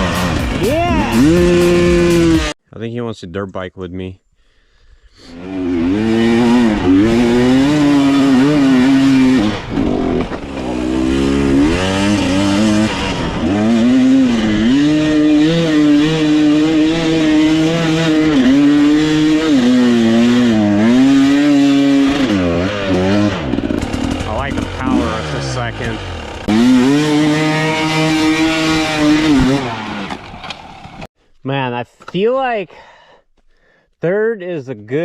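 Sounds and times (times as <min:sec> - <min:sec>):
dirt bike engine revving: 0:00.0 - 0:02.6, 0:05.3 - 0:31.1.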